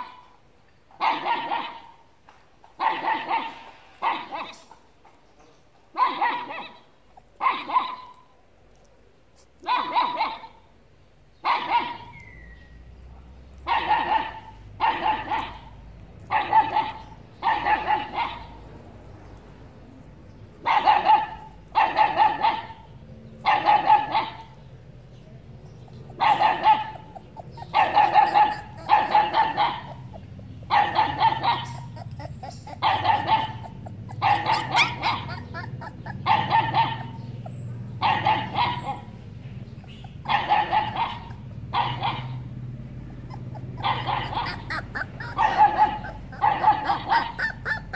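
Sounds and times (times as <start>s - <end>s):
dog barking: 0.0s - 0.4s, 1.0s - 2.0s, 2.8s - 4.8s, 5.9s - 8.3s, 9.6s - 10.7s, 11.4s - 12.6s, 13.6s - 18.6s, 20.6s - 24.7s, 25.6s - 47.9s.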